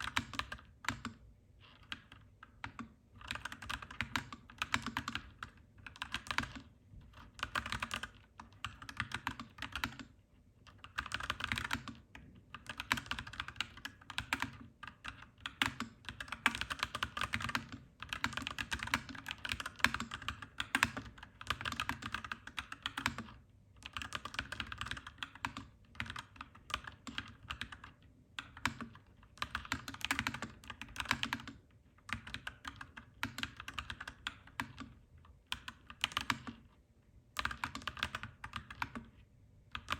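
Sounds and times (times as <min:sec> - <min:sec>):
mechanical keyboard typing: 0:00.0 - 0:36.7, 0:37.4 - 0:39.9.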